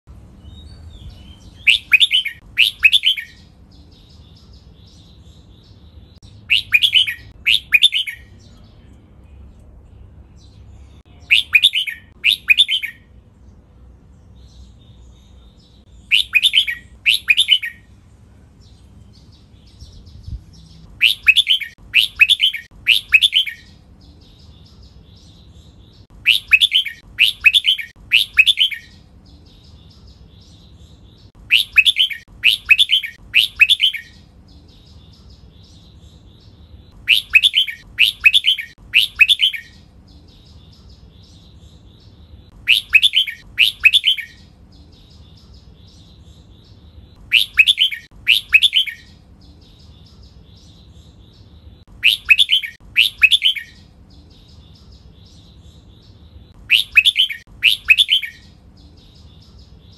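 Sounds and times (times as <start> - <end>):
bird singing clear phrases: 0.0 - 59.9
soft bird chatter: 0.2 - 59.9.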